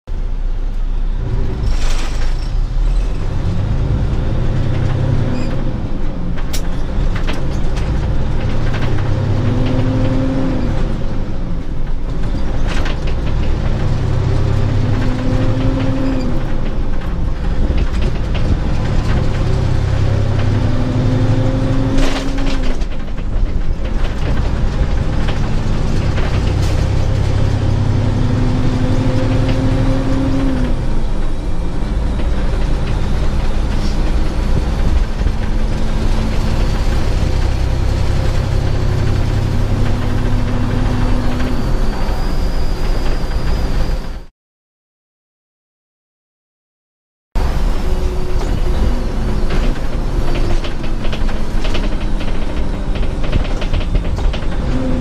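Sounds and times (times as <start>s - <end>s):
truck diesel engine accelerating: 0.1s - 44.3s, 47.4s - 55.0s.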